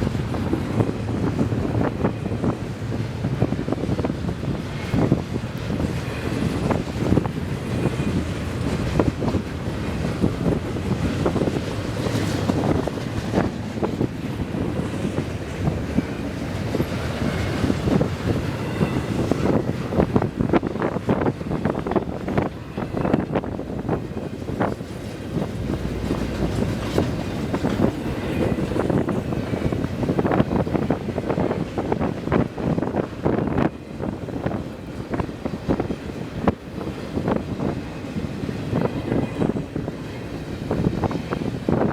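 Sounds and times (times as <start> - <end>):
train wheels clacking over rail joints: 0.0 - 41.9
wind buffeting microphone: 0.0 - 41.9.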